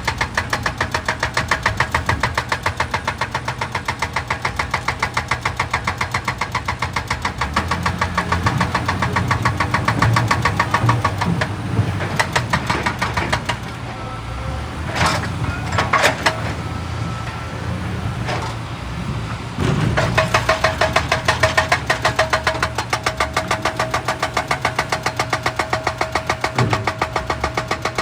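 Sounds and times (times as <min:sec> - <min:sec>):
hydraulic breaker hammering rock: 0:00.0 - 0:14.2, 0:14.8 - 0:28.0
steel clanking on rock: 0:00.0 - 0:14.2, 0:14.8 - 0:17.4, 0:18.1 - 0:28.0
excavator diesel engine: 0:00.0 - 0:28.0.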